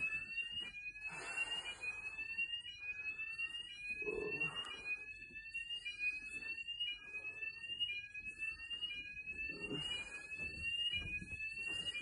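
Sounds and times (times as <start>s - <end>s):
fire alarm rising whoop: 0.0s - 12.0s.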